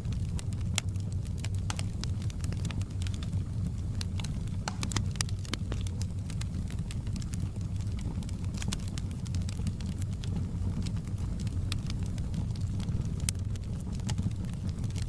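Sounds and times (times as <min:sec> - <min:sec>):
burning wood crackling and popping: 0:00.0 - 0:15.0
low rush of flames: 0:00.0 - 0:15.0.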